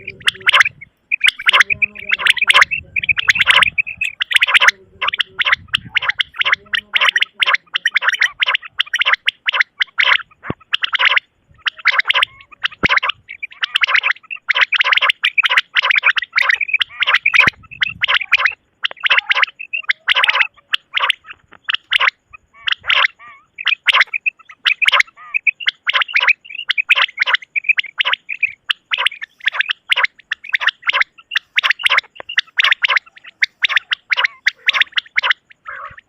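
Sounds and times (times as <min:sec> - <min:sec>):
quail calling: 0:00.0 - 0:36.0.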